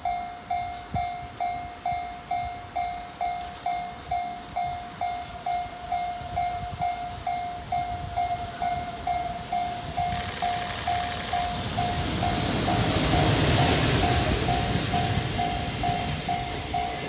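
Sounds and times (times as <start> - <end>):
freight train passing: 0.0 - 17.0
level crossing alarm ringing: 0.0 - 17.0.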